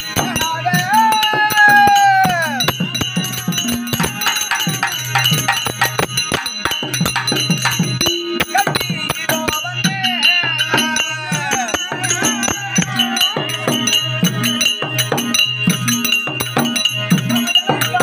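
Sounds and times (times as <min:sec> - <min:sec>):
quick dense percussion: 0:00.0 - 0:18.0.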